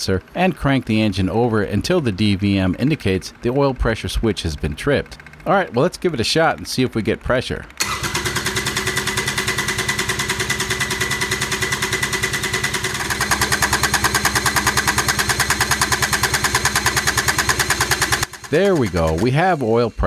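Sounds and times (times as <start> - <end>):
diesel engine cranking without starting: 0.0 - 19.8.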